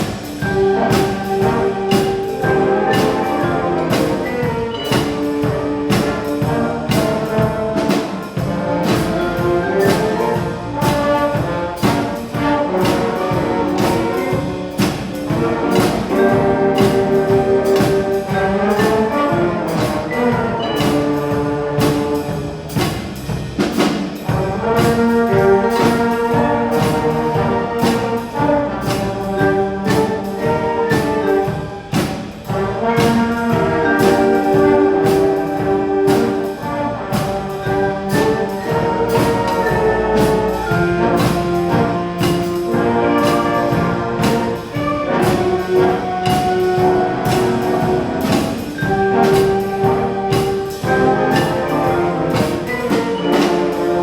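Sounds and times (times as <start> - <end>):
jazz band playing swing: 0.0 - 54.0
steady drum beat: 0.0 - 54.0.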